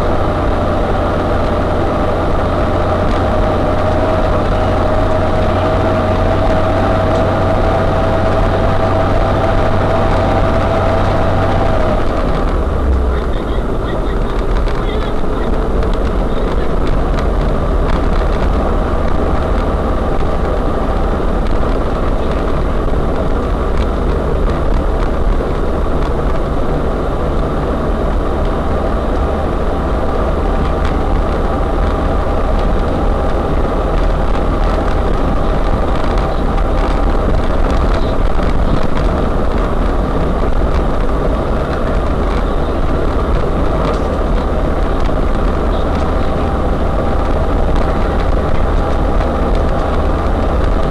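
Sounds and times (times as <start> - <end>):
van engine droning: 0.0 - 50.9.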